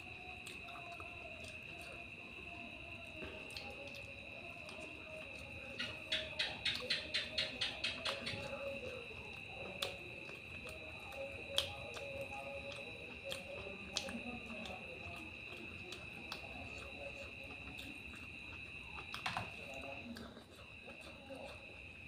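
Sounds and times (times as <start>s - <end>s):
fingers mixing food on a plate: 0.0s - 22.0s
person chewing with mouth clicks: 0.0s - 22.0s.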